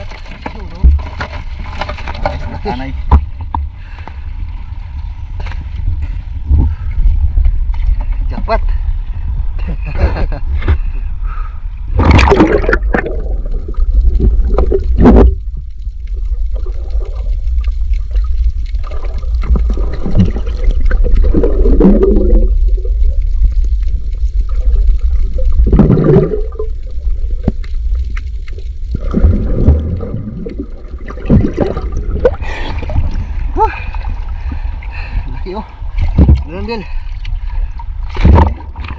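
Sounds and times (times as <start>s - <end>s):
gurgling bubbles and moving water: 0.0s - 38.9s
underwater low rumble: 0.0s - 38.9s.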